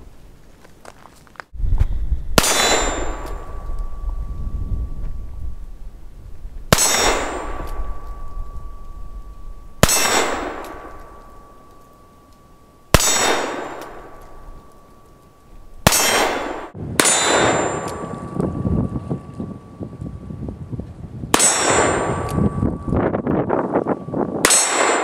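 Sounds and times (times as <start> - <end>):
steel target ringing clang: 2.4 - 5.7, 6.7 - 20.0, 21.3 - 25.0.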